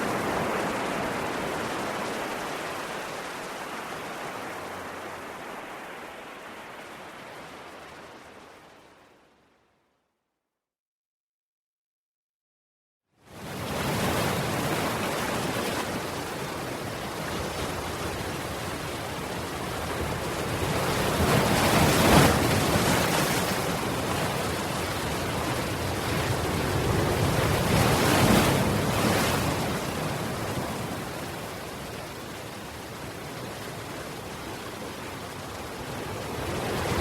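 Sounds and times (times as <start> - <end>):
ocean waves breaking: 0.0 - 9.2, 13.3 - 37.0.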